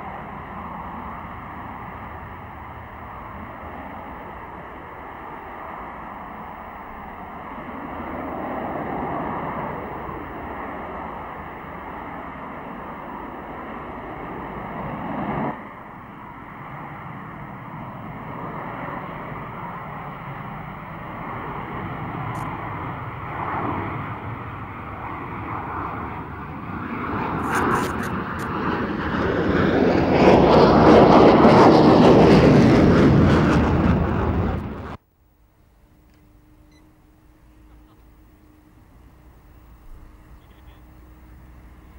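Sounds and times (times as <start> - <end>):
jet engine roar with whine: 0.0 - 35.0, 35.8 - 41.9.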